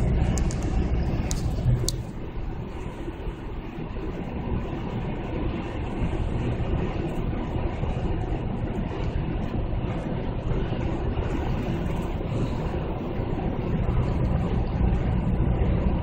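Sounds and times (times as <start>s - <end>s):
deep exhaust rumble: 0.0s - 16.0s.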